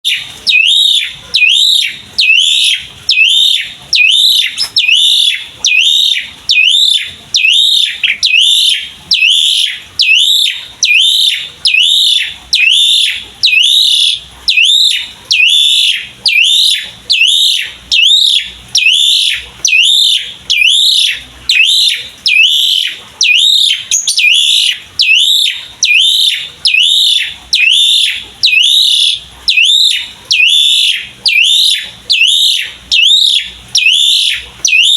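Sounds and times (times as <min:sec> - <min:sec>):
starling whistled call: 0:00.1 - 0:34.9.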